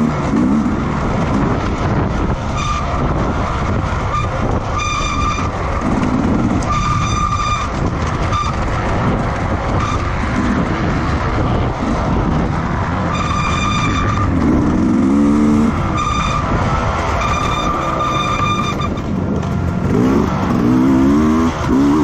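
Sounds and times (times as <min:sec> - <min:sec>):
racing motorcycle engines: 0:00.0 - 0:22.0.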